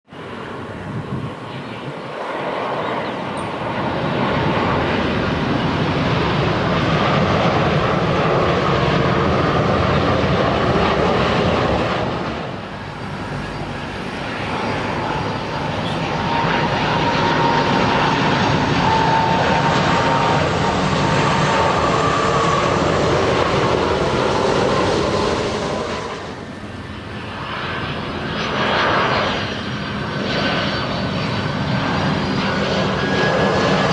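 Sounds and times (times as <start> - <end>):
jet engines whining: 0.1 - 33.9.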